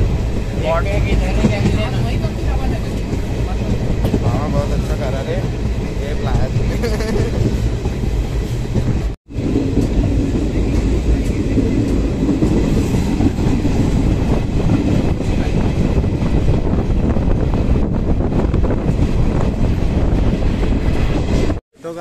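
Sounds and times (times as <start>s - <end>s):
train coach rumble: 0.0s - 21.6s.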